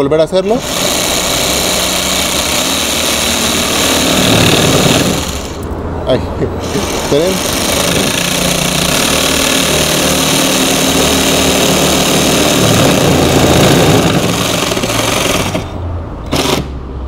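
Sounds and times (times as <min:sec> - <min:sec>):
jigsaw cutting fibreboard: 0:00.6 - 0:05.6, 0:06.6 - 0:15.7, 0:16.3 - 0:16.7.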